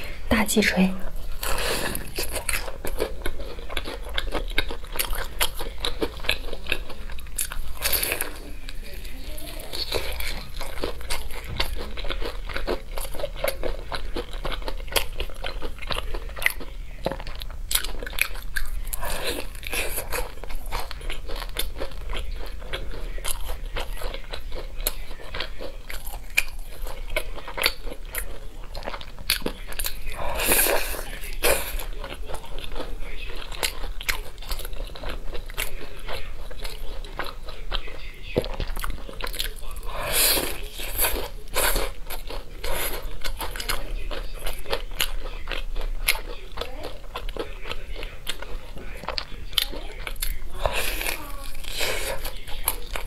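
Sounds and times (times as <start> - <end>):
wet chewing: 0.0 - 53.0.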